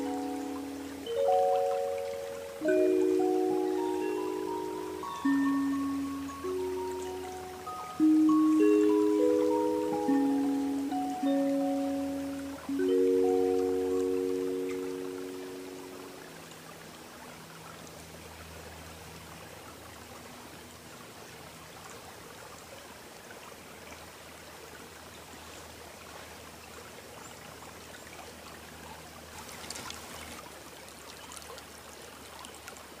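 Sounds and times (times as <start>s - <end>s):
running water: 0.0s - 33.0s.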